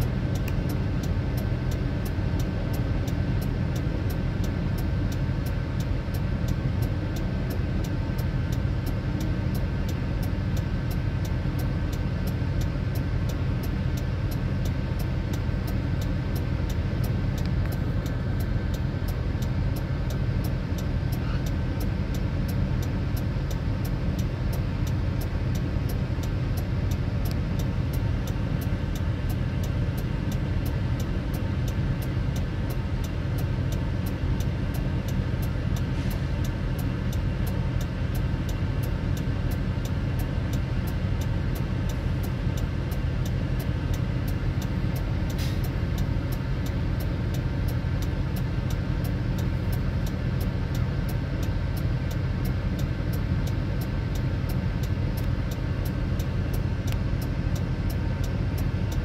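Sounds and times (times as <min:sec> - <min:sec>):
faint regular ticking: 0:00.0 - 0:59.0.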